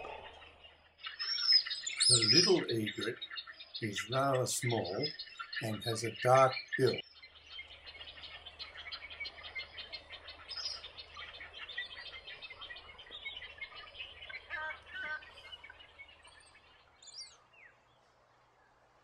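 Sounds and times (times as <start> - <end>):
sharp bird calls: 0.0 - 19.0
small birds chirping: 0.0 - 19.0.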